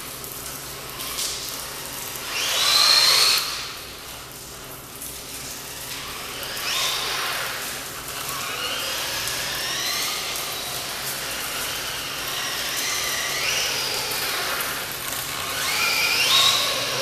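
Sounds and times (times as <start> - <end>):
electric motor whine: 0.8 - 4.0, 5.3 - 17.0.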